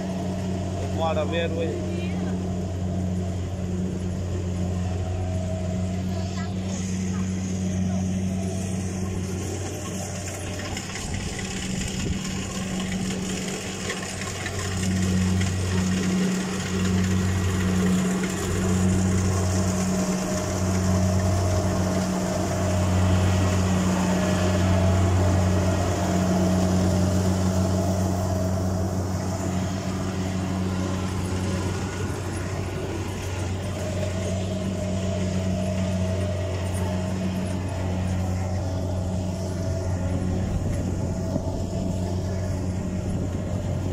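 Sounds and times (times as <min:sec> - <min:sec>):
combine harvester running: 0:00.0 - 0:43.9.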